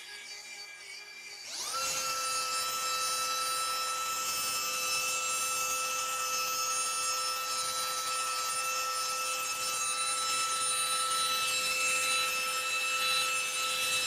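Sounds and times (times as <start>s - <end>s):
rotary polisher whining: 0.0s - 14.0s.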